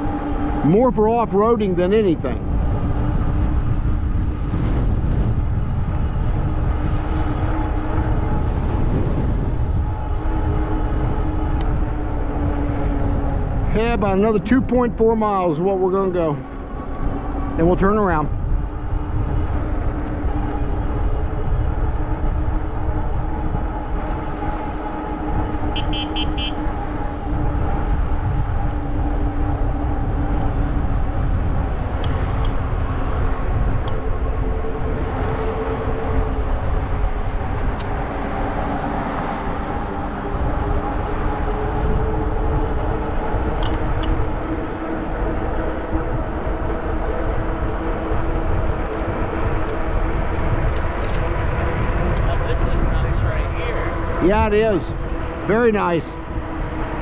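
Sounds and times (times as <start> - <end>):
e-bike tires and drive humming: 0.0 - 57.0
wind rumble on microphone: 0.0 - 57.0.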